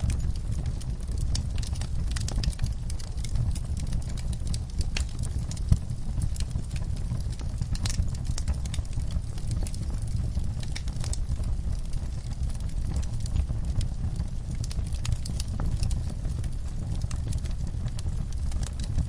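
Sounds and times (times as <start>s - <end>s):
fire low rumble: 0.0s - 19.0s
wood fire crackling and popping: 0.0s - 19.0s.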